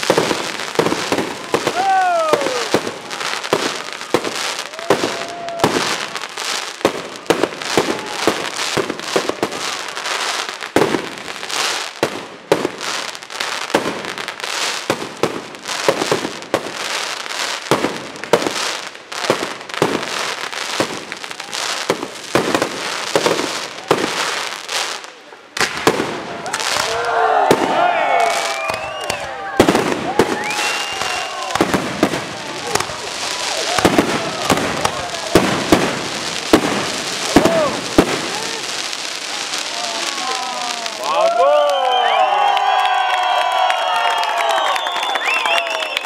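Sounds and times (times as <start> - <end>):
firework crackling: 0.0 - 42.8.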